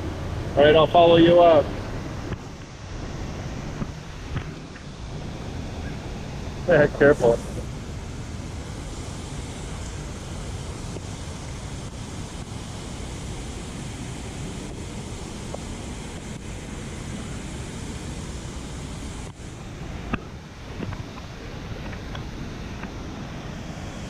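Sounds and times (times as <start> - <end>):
water rushing down spillway: 0.0 - 24.0.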